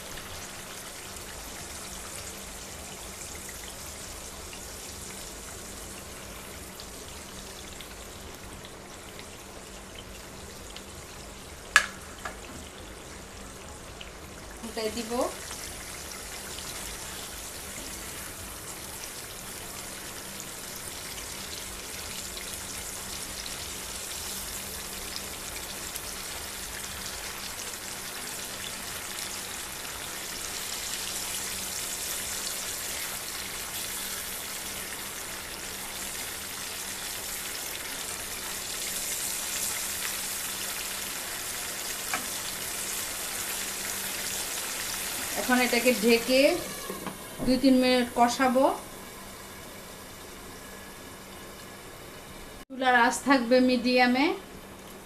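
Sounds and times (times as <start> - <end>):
masala sizzling in a frying pan: 0.0 - 55.0.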